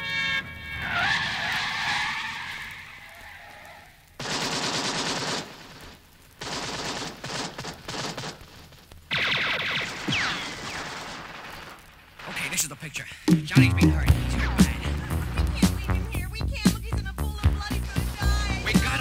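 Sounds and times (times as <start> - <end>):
rapid run of sharp cracks: 0.7 - 19.0.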